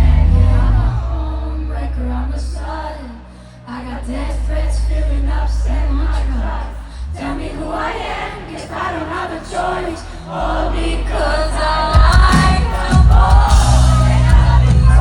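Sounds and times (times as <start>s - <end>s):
live pop music through pa: 0.0s - 3.1s, 3.7s - 15.0s
heavy bass: 0.0s - 15.0s
singing: 0.0s - 15.0s.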